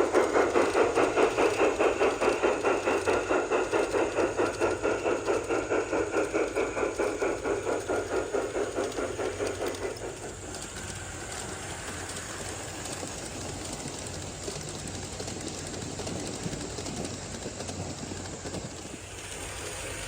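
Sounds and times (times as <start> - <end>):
model train chuffing: 0.0 - 20.0.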